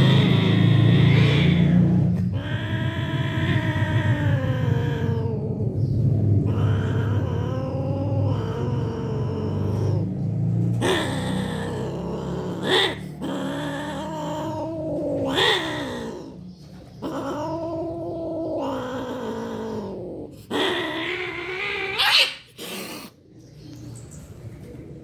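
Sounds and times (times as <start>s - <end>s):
cats yowling and screeching: 0.0s - 23.2s.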